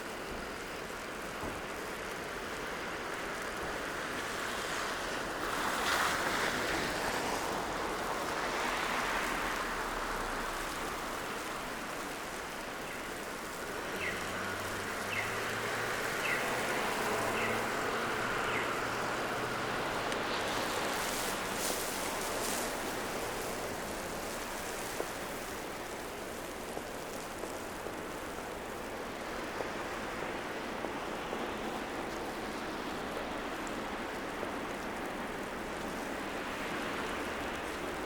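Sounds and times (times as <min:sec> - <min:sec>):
tyres hissing on slushy road: 0:00.0 - 0:38.0.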